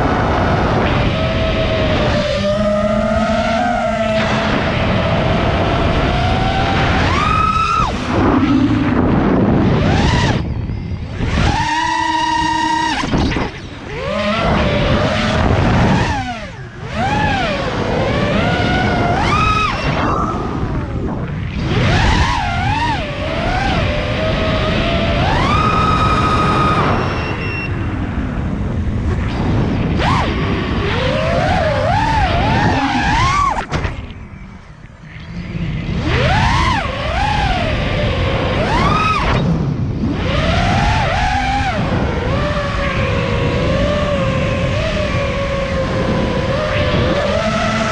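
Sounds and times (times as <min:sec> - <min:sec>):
quadcopter motors whining: 0:00.0 - 0:47.9
wind rushing over microphone: 0:00.0 - 0:47.9.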